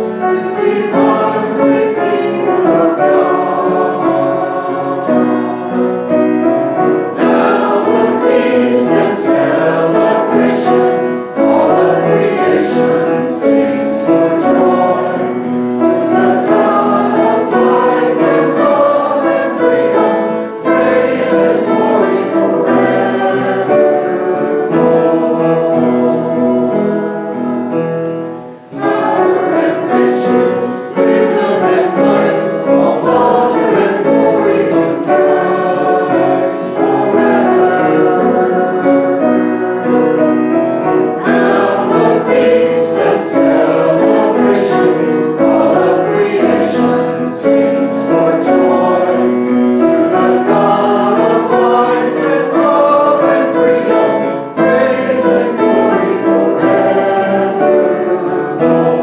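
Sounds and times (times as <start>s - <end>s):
group singing a hymn: 0.0s - 59.0s
instrumental accompaniment: 0.0s - 59.0s.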